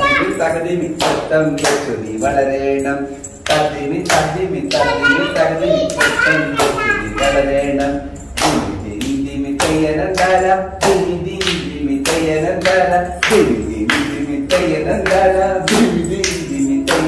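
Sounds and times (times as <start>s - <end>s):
hand claps: 0.8s - 2.3s, 3.4s - 7.0s, 7.7s - 17.0s.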